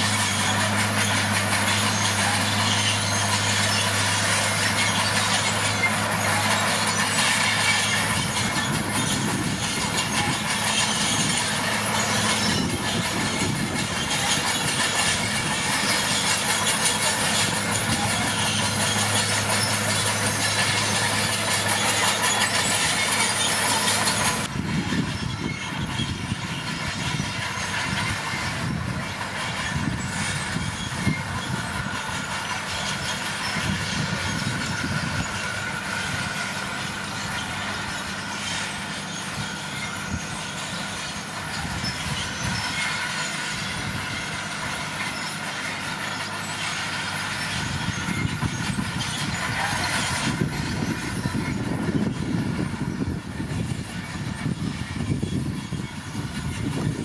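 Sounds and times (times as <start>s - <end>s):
diesel engine running: 0.0s - 57.0s
steel tracks rattling and squealing: 0.0s - 57.0s.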